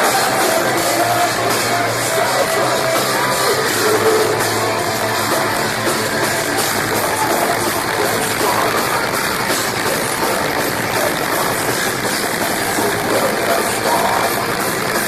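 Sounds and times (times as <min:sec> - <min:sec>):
bass guitar: 0:00.0 - 0:15.0
distorted electric guitars: 0:00.0 - 0:15.0
pounding drum kit: 0:00.0 - 0:15.0.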